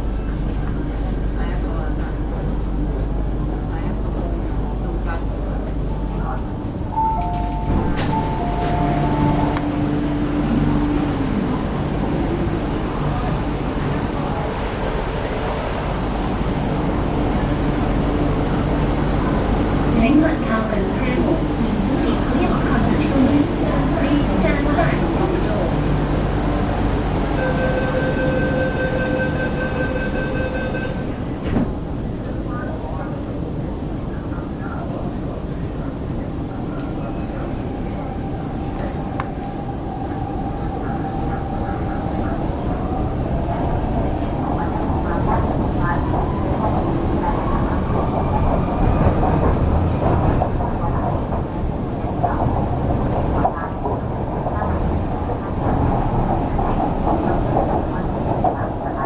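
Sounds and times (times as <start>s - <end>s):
train interior rumble: 0.0s - 59.0s.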